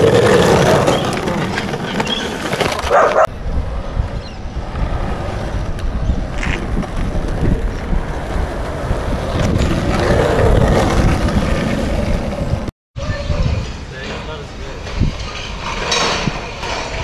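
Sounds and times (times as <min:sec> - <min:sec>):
skateboard wheels rolling on asphalt: 0:00.0 - 0:17.0
wind buffeting microphone: 0:02.9 - 0:17.0.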